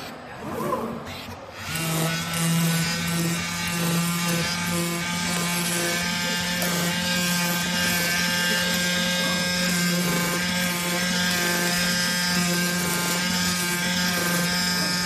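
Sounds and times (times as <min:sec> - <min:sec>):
oscillating knife cutter buzzing: 0:01.2 - 0:15.0.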